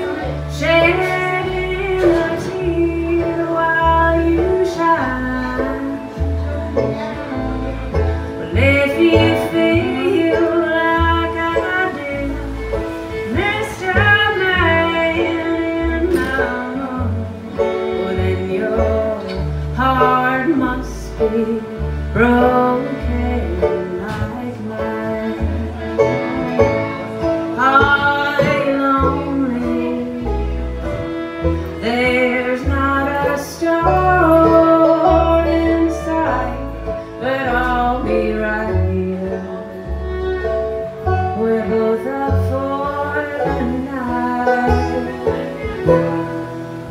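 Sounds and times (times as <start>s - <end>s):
woman singing: 0.0s - 7.6s, 8.4s - 30.8s, 31.6s - 39.9s, 41.1s - 46.9s
fiddle: 0.0s - 46.9s
strummed acoustic guitar: 0.0s - 46.9s
upright bass: 0.0s - 46.9s.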